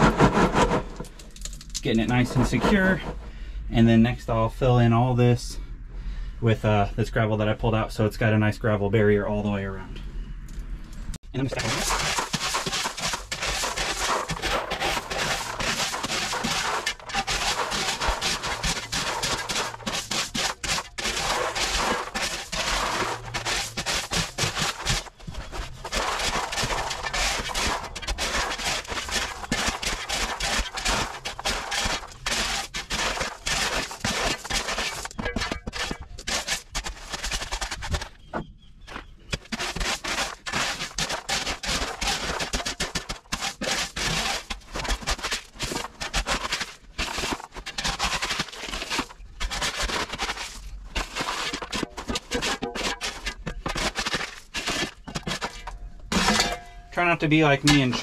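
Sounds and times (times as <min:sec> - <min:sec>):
stones crunching and rattling: 0:00.0 - 0:03.3, 0:11.3 - 0:58.0
shovel scraping gravel: 0:00.0 - 0:04.0, 0:11.3 - 0:58.0.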